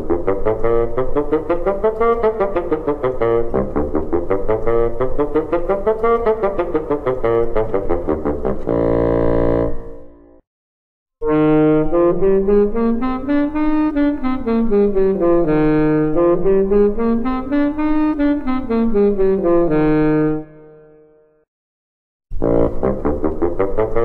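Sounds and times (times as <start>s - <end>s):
instrumental music: 0.0s - 10.4s, 11.2s - 21.5s, 22.3s - 24.0s.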